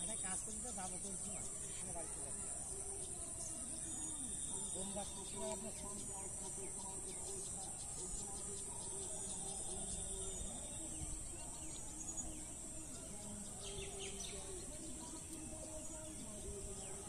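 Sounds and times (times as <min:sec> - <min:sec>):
bird chirps: 0:00.0 - 0:17.0
insect drone: 0:00.0 - 0:17.0.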